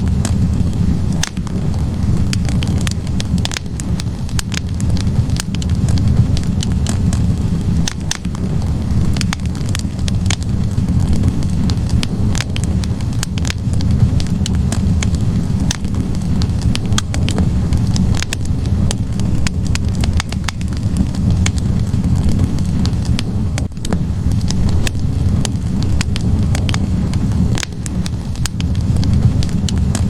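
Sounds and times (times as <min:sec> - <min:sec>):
burning logs crackling and popping: 0:00.0 - 0:30.0
low roar of flames: 0:00.0 - 0:30.0.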